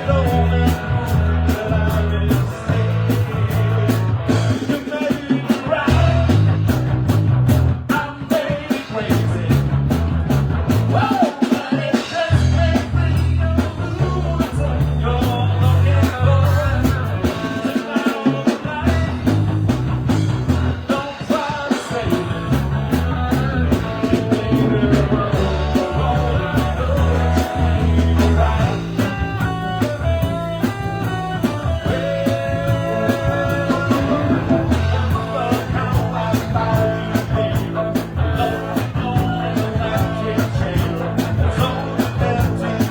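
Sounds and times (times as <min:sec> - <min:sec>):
bass line: 0:00.0 - 0:11.2, 0:12.1 - 0:17.8, 0:18.6 - 0:42.9
live rock band playing: 0:00.0 - 0:42.9
steady drum beat: 0:00.0 - 0:42.9.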